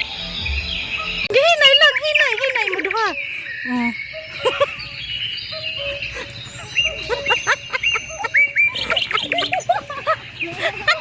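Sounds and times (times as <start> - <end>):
steady high drone: 0.0 - 9.5
birds chirping: 0.0 - 11.0.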